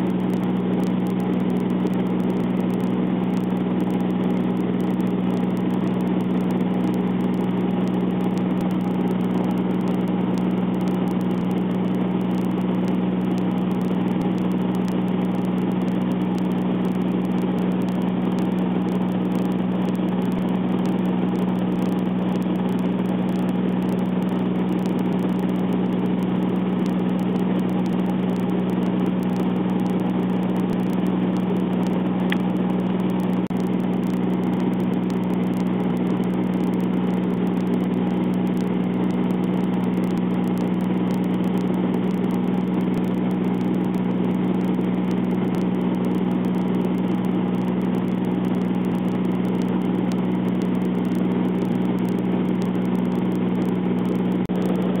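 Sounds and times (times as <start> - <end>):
propeller aircraft droning: 0.0 - 55.0.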